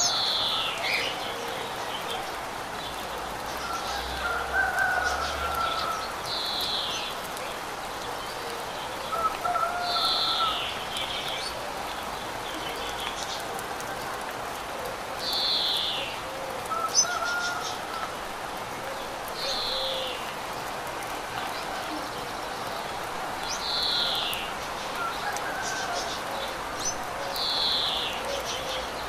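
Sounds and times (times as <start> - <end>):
water rushing: 0.0 - 29.0.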